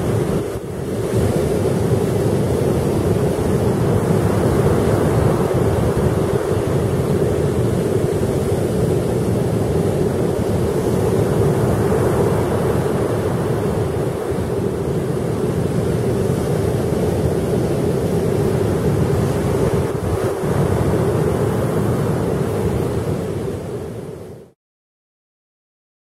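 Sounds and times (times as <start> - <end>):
wind buffeting microphone: 0.0 - 24.4
waves breaking on shore: 0.0 - 24.6.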